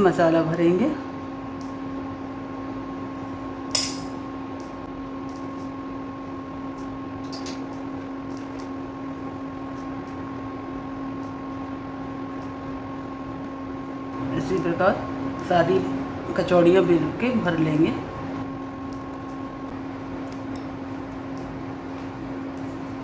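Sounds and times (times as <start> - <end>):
electric appliance hum: 0.0 - 23.0.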